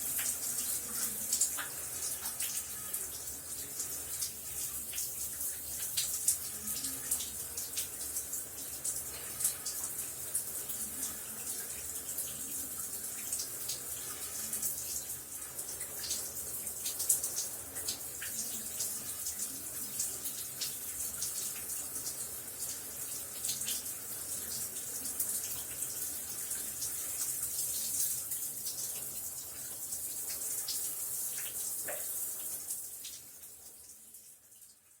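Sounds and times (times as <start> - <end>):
shower spraying water: 0.0 - 34.4.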